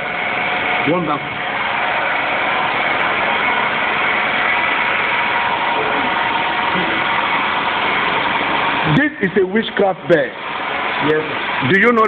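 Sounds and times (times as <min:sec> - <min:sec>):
loud mechanical drone: 0:00.0 - 0:12.0.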